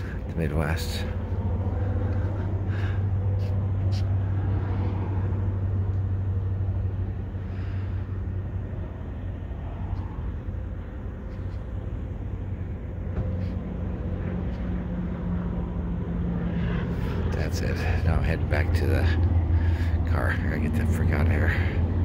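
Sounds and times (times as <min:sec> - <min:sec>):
deep engine drone: 0:00.0 - 0:22.0
higher engine drone: 0:00.0 - 0:22.0
low rumble of vehicle engines: 0:00.0 - 0:22.0.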